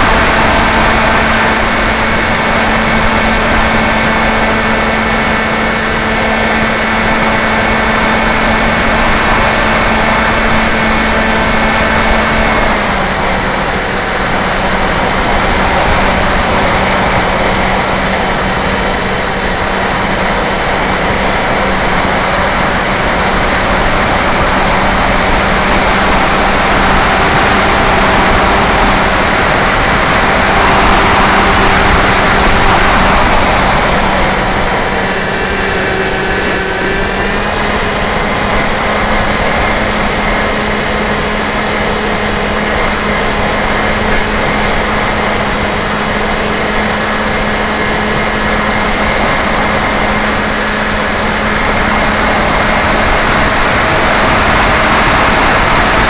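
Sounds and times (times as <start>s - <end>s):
electric motor and propeller drone: 0.0s - 56.0s
wind noise: 0.0s - 56.0s.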